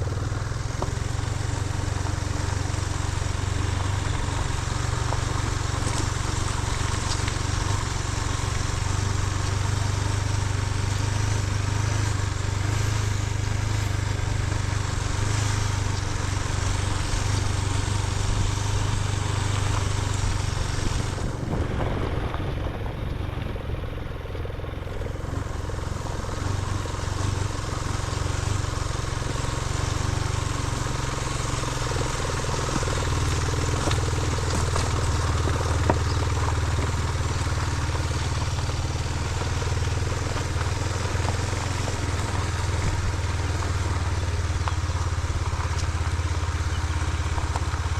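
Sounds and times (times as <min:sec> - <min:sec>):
motorcycle engine running: 0:00.0 - 0:47.9
wind and road noise: 0:00.0 - 0:47.9.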